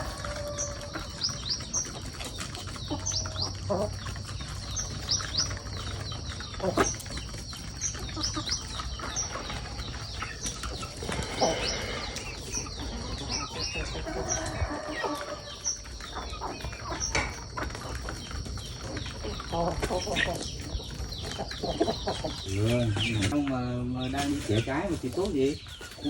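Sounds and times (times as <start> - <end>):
chickens clucking: 0.0 - 26.0
small birds chirping: 0.0 - 26.0.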